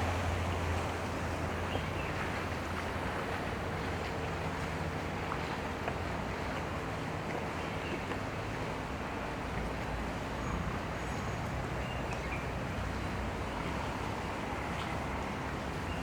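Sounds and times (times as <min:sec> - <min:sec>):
wind and water noise: 0:00.0 - 0:16.0.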